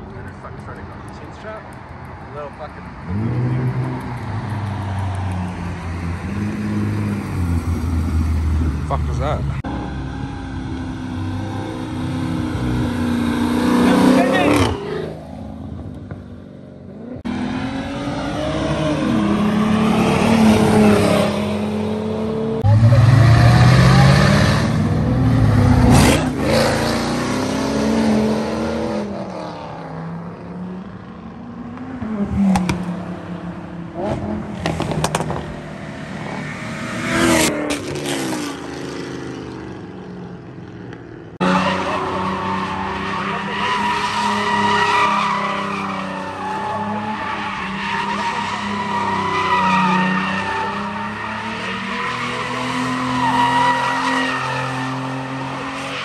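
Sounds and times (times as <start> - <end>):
car engines revving past: 0.3 - 56.0.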